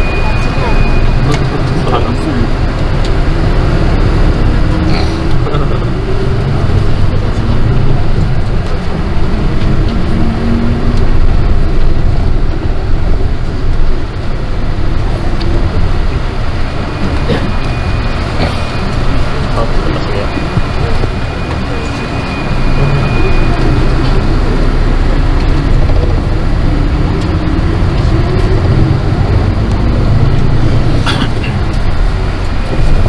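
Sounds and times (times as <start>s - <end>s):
bus engine and road noise: 0.0s - 33.0s.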